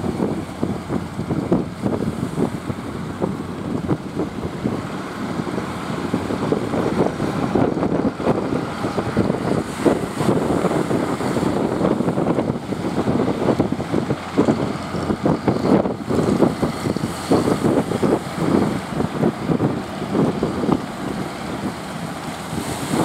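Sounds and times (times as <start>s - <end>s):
boat moving through water: 0.0s - 23.0s
wind buffeting microphone: 0.0s - 23.0s.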